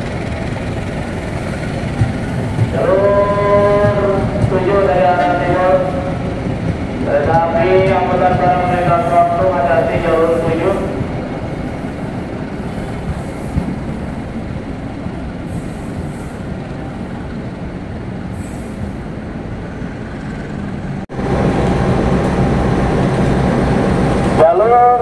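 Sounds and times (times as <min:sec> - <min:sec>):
diesel locomotive engine hum: 0:00.0 - 0:25.0
train rumbling on rails: 0:00.0 - 0:25.0.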